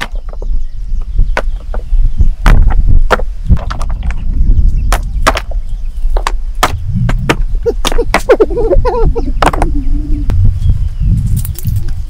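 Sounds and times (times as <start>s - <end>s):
steady low rumble: 0.4s - 12.0s.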